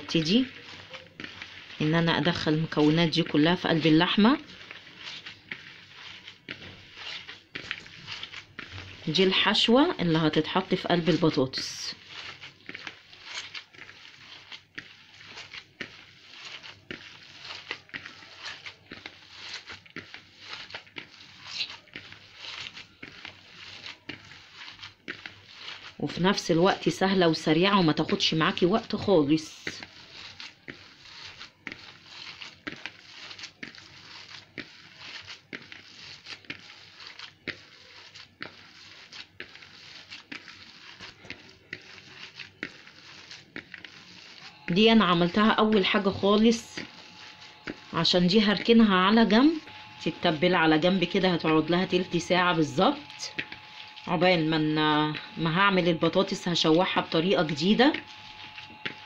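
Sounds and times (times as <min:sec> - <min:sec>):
hand squelching meat filling: 0:00.0 - 0:49.3.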